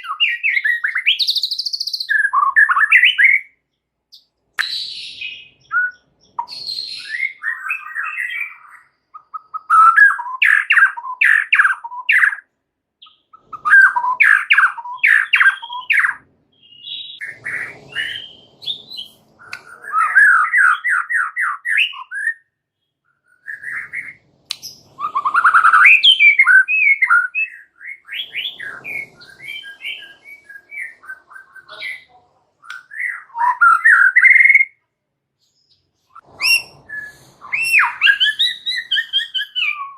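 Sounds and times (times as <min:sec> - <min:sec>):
bird singing rapid notes: 0:00.0 - 0:34.8, 0:35.4 - 0:39.9.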